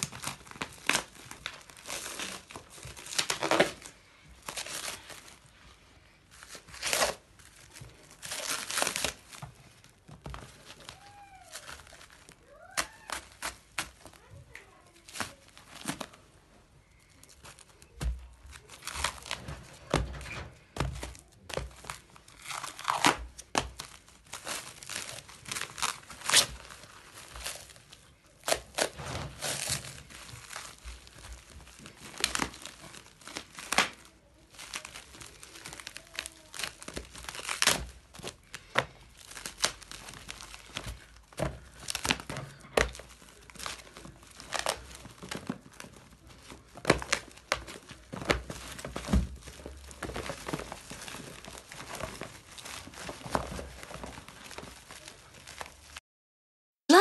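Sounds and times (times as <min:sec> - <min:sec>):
plastic wrapping crinkling and tearing: 0:00.0 - 0:56.0.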